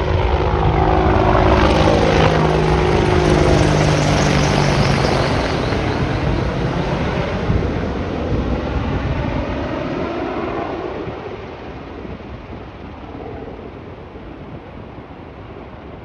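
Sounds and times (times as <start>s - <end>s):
helicopter rotor and engine noise: 0.0s - 16.0s.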